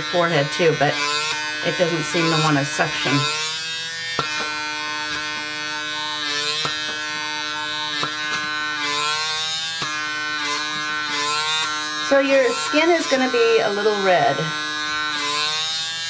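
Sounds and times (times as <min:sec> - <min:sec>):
suction motor humming: 0:00.0 - 0:16.0.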